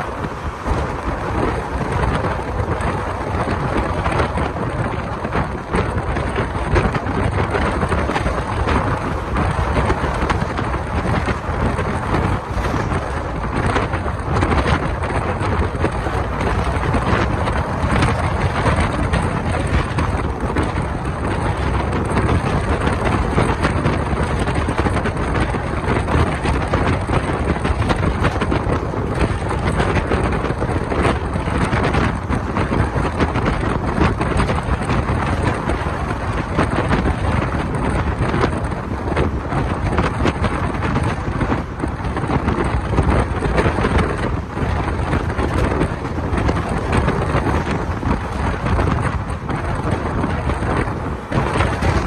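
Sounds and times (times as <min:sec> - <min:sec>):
train running on track: 0:00.0 - 0:52.0
wind rushing over microphone: 0:00.0 - 0:52.0.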